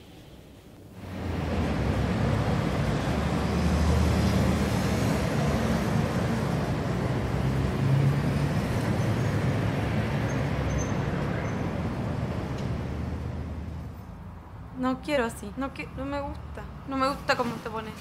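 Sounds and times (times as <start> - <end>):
street traffic rumble: 0.7 - 18.0.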